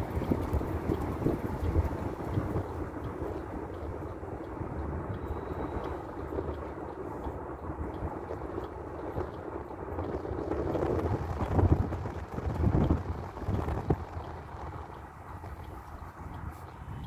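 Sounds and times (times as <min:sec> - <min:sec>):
car road rumble: 0:00.0 - 0:17.0
wind buffeting microphone: 0:00.0 - 0:17.0
wind noise of moving car: 0:00.0 - 0:17.0.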